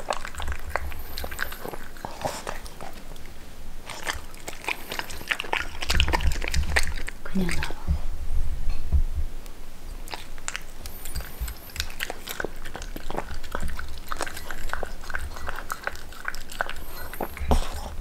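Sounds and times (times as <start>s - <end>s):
dog licking and chewing: 0.0s - 7.8s, 9.9s - 18.0s.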